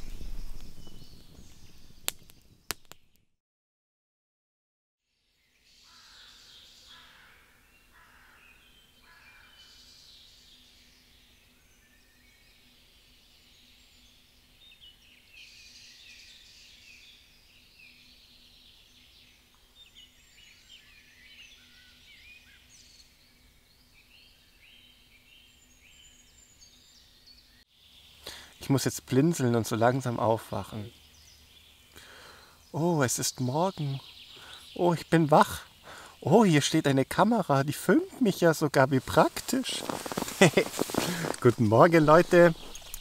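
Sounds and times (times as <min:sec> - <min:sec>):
birds chirping and trilling: 0:00.0 - 0:02.3, 0:05.4 - 0:43.0.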